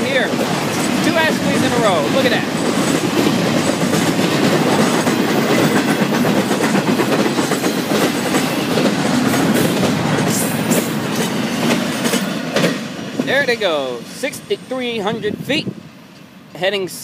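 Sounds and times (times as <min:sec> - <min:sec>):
clickety-clack over rail joints: 0:00.0 - 0:16.7
train wheels rumbling on rails: 0:00.0 - 0:17.0.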